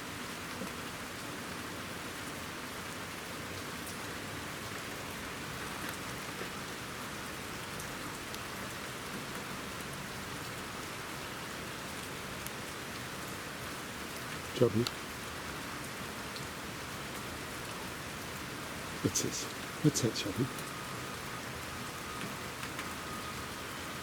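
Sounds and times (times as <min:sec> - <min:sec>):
light rain falling: 0:00.0 - 0:24.0.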